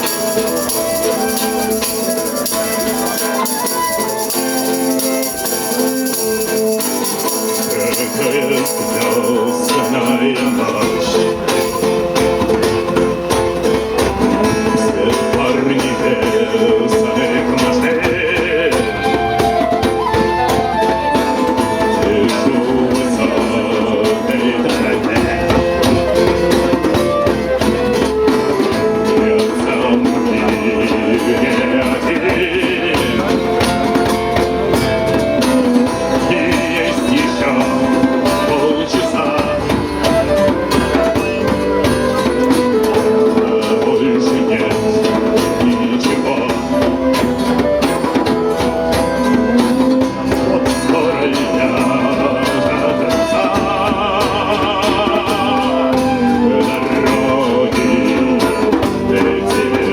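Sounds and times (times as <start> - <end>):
live band playing: 0.0 - 59.9
percussion beat: 0.0 - 59.9
person singing: 0.0 - 59.9.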